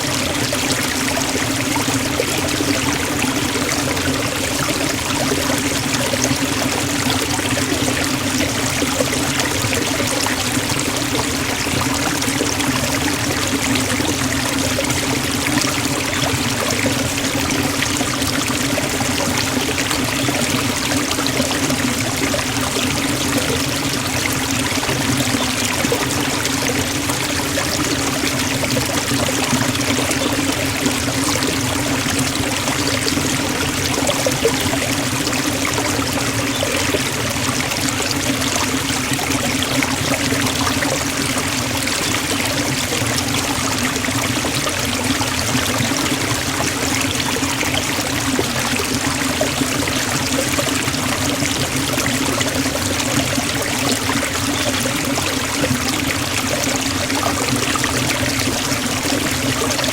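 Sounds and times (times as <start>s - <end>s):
waterfall rushing into pool: 0.0s - 59.9s.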